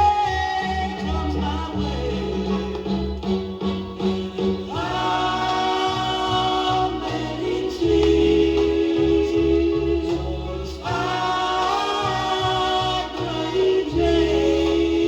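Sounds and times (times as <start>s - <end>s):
steady bass line: 0.0s - 15.0s.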